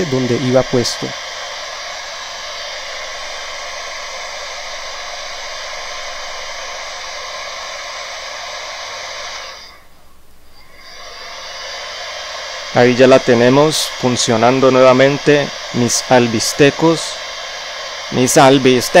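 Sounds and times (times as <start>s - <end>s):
heat gun fan blowing: 0.0s - 19.0s.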